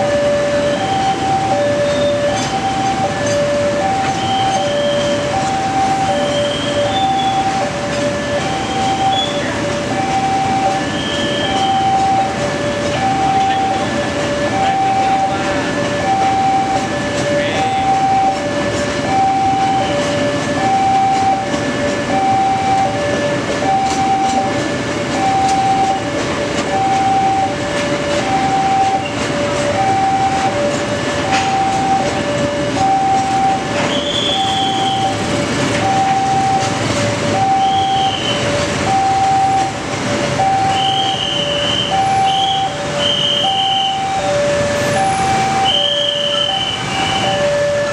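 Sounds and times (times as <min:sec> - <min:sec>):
freight train rumbling past: 0:00.0 - 0:47.9
two-tone crossing alarm: 0:00.0 - 0:47.9
wheels clicking over rail joints: 0:00.0 - 0:47.9.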